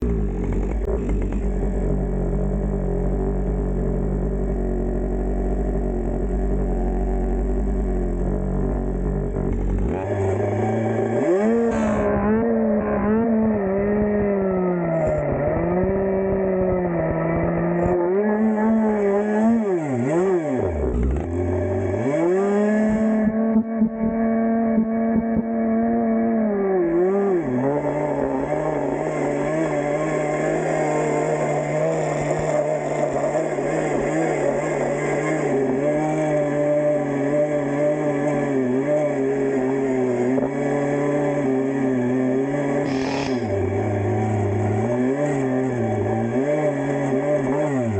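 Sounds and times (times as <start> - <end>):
chainsaw revving and cutting wood: 0.0 - 24.2, 25.3 - 47.9.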